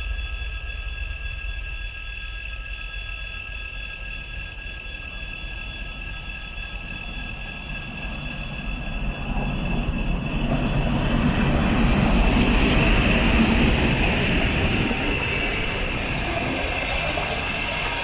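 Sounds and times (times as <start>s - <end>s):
faint high ringing tone: 0.0s - 18.0s
train wheels rumbling on rails: 0.0s - 18.0s.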